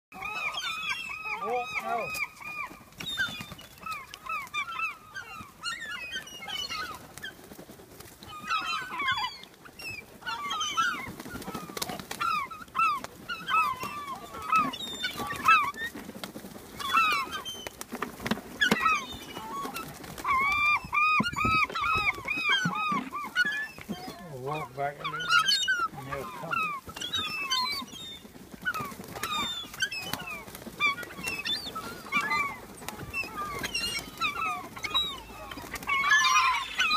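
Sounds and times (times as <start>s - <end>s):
gulls calling: 0.1s - 36.9s.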